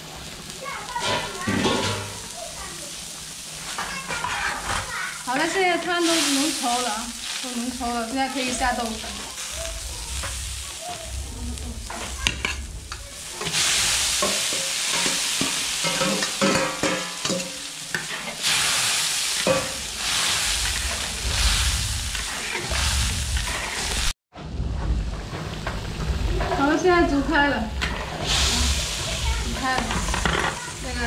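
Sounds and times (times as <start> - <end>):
wok sizzling: 0.0 - 31.0
spatula scraping a wok: 3.0 - 24.1, 25.2 - 31.0.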